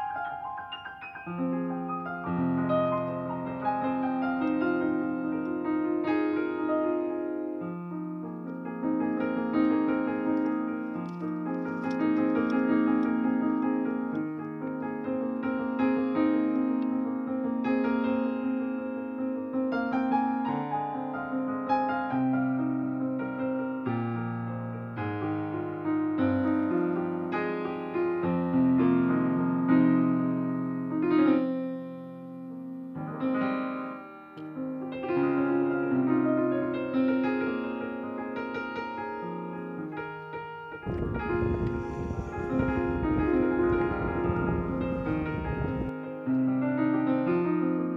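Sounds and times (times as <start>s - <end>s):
slow solo piano music: 0.0s - 47.9s.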